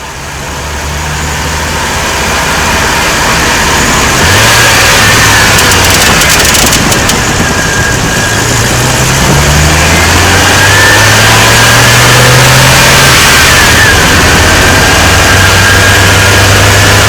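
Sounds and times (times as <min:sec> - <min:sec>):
loud engine running: 0:00.0 - 0:17.0.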